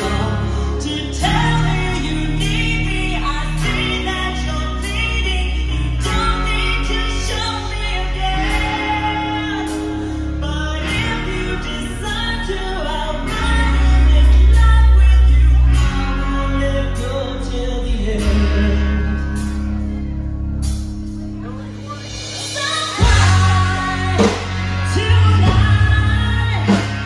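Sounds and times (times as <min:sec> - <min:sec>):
rock band playing: 0:00.0 - 0:27.0
woman singing lead: 0:00.0 - 0:27.0.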